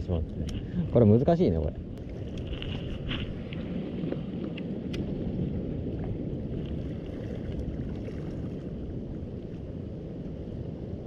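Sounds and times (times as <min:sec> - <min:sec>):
wind on microphone: 0:00.0 - 0:11.0
sea water rushing: 0:02.0 - 0:11.0.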